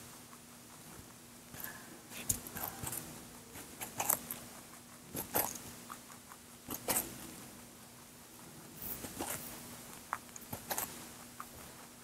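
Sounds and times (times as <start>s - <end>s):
rabbit crunching carrot: 0.0s - 12.0s.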